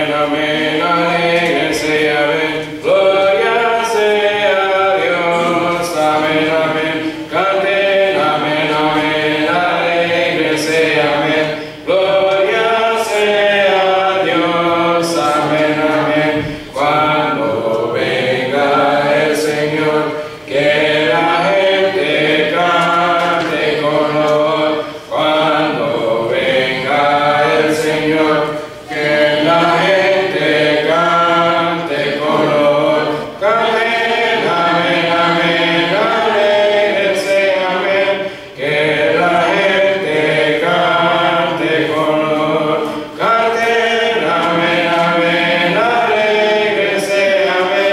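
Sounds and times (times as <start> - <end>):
congregation singing a hymn: 0.0 - 47.9.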